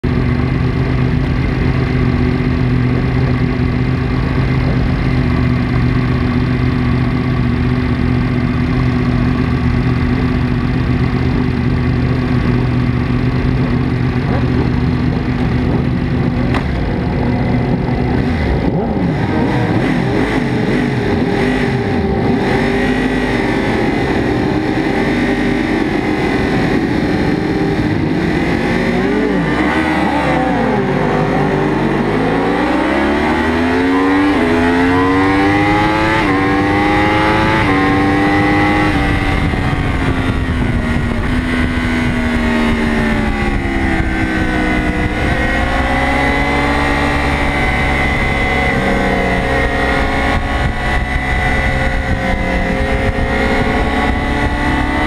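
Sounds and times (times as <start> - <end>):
other motorcycles revving: 0.0 - 55.0
racing motorcycle engine revving: 0.0 - 55.0.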